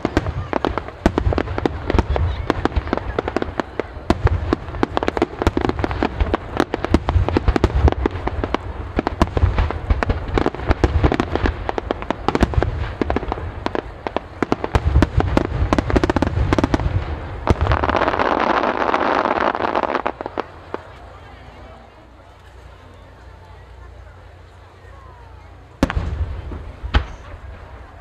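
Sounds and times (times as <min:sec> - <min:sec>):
firework crackling stars: 0:00.0 - 0:28.0.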